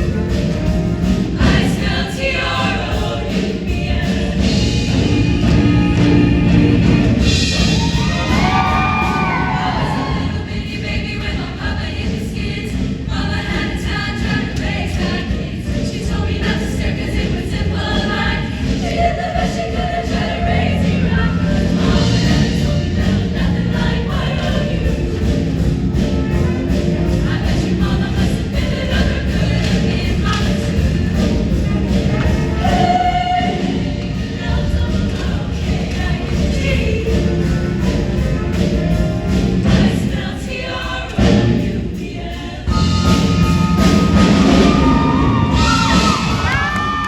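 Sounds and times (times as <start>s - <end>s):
choir singing: 0.0s - 47.0s
loud accompaniment with driving beat: 0.0s - 47.0s.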